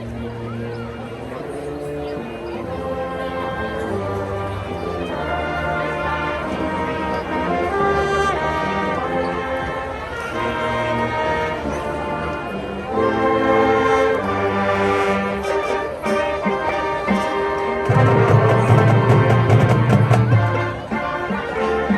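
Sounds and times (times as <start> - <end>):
orchestral brass chords: 0.0 - 21.9.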